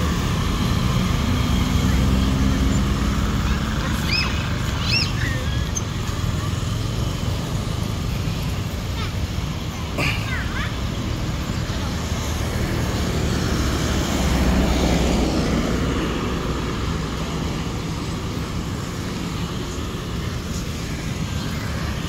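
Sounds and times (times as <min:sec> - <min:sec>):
motor vehicle passing: 0:00.0 - 0:08.8, 0:10.4 - 0:22.0
low traffic rumble: 0:00.0 - 0:22.0.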